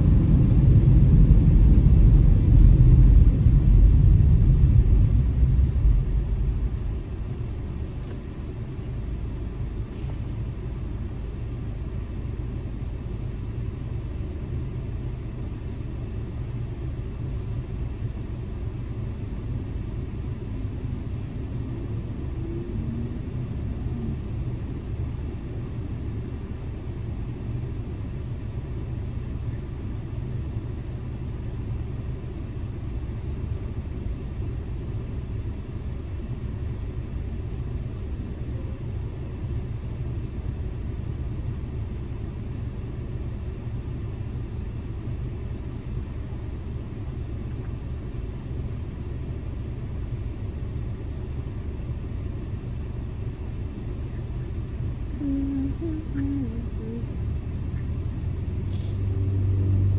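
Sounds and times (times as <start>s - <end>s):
car engine idling: 0.0s - 58.6s.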